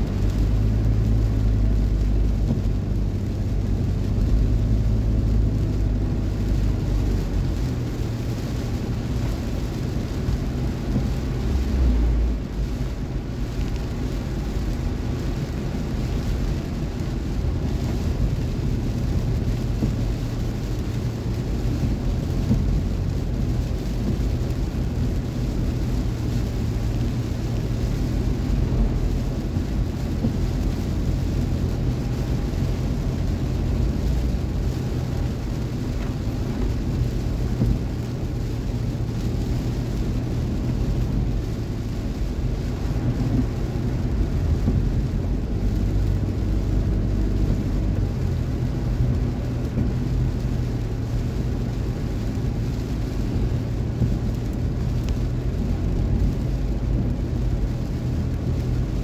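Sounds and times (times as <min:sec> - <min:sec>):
car driving in rain: 0:00.0 - 0:59.0.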